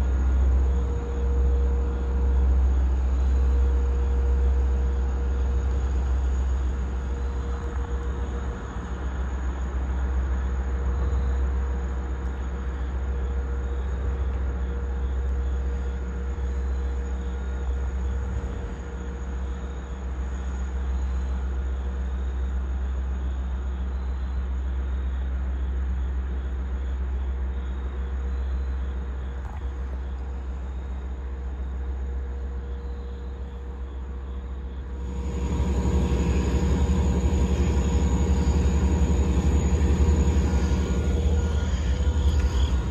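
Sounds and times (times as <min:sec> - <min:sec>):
diesel locomotive idling: 0:00.0 - 0:24.1, 0:29.7 - 0:42.9
mid-pitched whine: 0:00.0 - 0:42.9.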